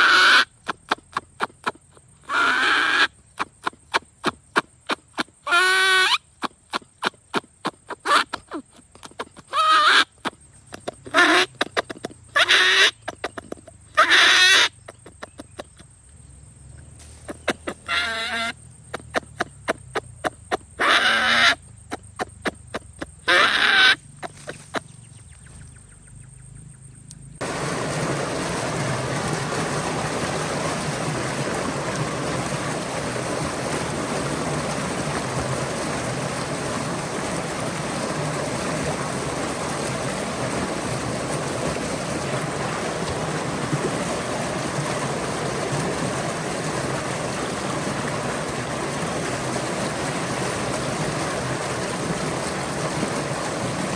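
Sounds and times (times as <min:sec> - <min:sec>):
stream water running: 0:00.0 - 0:15.7, 0:16.8 - 0:26.1, 0:27.3 - 0:53.9.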